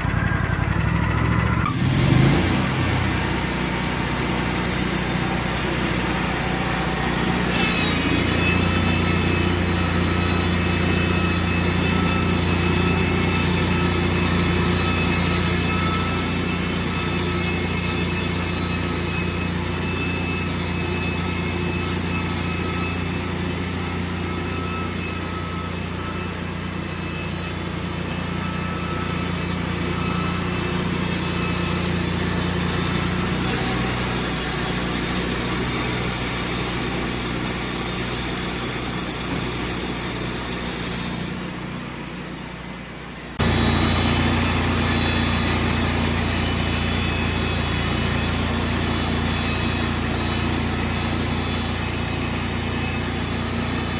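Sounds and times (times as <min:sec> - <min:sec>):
band sawmill engine hum: 0:00.0 - 0:53.9.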